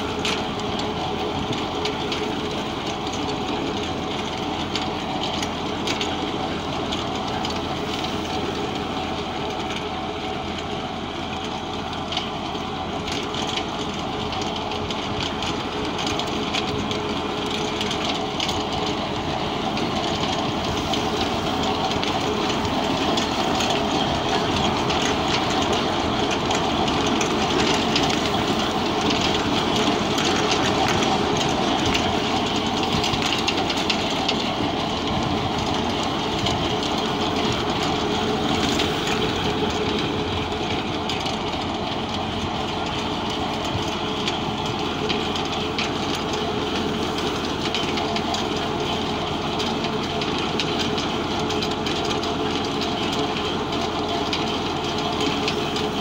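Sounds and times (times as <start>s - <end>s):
potato digger clattering: 0.0s - 56.0s
tractor engine running: 0.0s - 56.0s.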